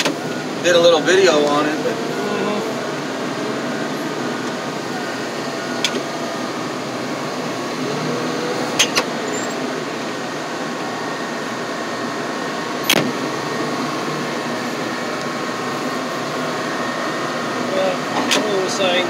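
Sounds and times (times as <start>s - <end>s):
wheel loader engine running: 0.0s - 19.0s.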